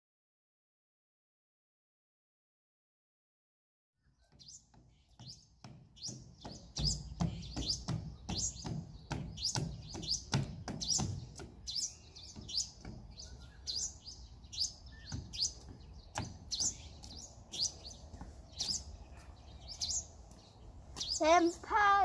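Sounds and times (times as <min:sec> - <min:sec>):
birds chirping: 0:04.0 - 0:22.0.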